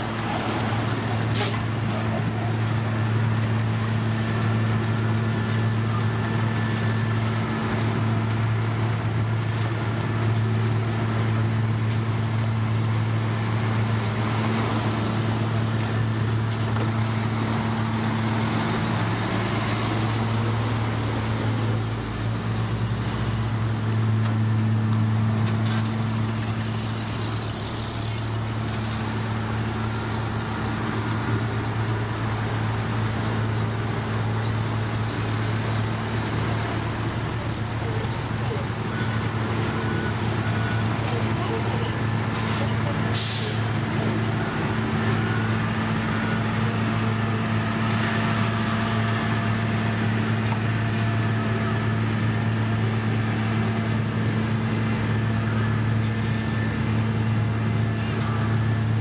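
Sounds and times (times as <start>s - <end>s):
diesel engines humming: 0.0s - 59.0s.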